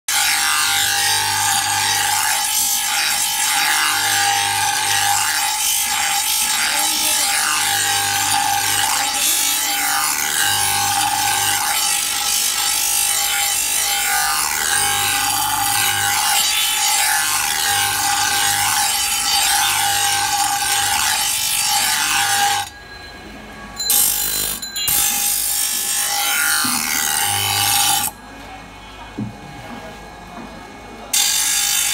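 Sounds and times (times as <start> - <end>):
bench grinder grinding metal: 0.1 - 22.9, 23.7 - 28.3, 31.1 - 31.9.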